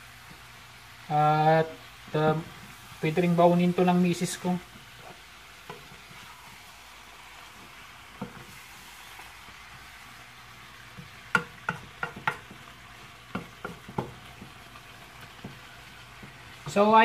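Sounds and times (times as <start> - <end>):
meat sizzling in frying pan: 0.0 - 17.0.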